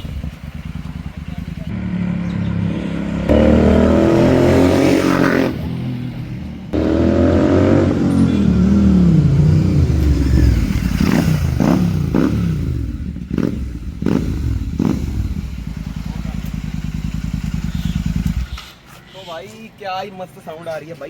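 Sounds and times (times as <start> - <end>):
motorcycle engine accelerating: 0.0 - 18.7.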